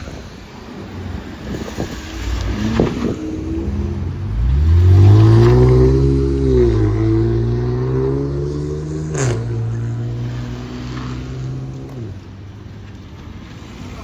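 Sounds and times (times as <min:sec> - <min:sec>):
car engine accelerating: 0:00.8 - 0:14.0.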